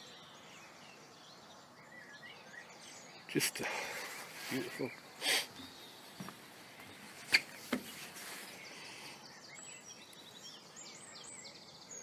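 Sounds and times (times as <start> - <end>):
faint birdsong: 0.0 - 12.0
outdoor background hiss: 0.0 - 12.0.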